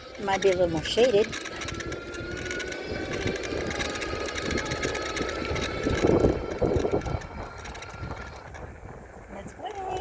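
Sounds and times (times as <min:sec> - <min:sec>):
electric bike motor whining: 0:00.0 - 0:10.0
tyre and wind rumble: 0:00.0 - 0:10.0.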